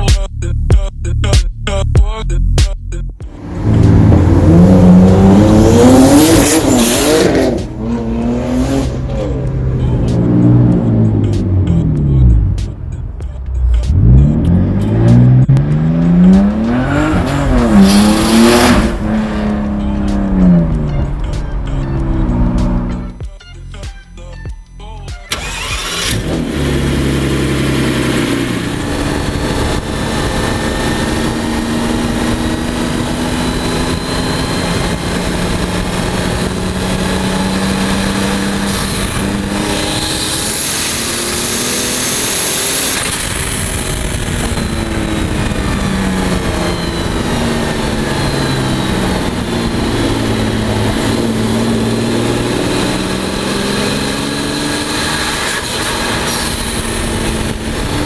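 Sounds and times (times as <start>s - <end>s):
car engine accelerating: 3.2s - 23.2s, 25.3s - 58.0s.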